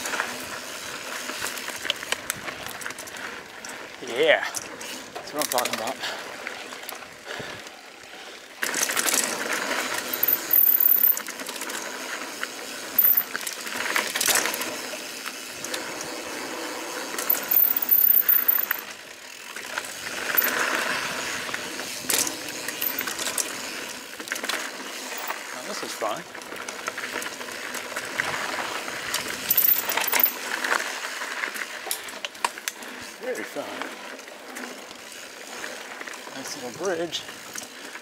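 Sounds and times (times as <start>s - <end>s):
mountain bike rattling and clattering: 0.0s - 38.0s
tyres on dirt: 0.0s - 38.0s.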